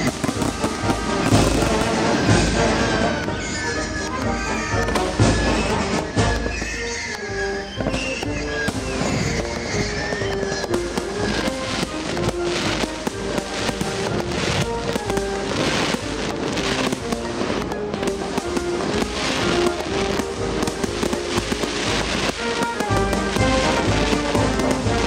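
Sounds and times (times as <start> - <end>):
background music with held notes: 0.0 - 25.0
fireworks popping and banging: 0.0 - 25.0.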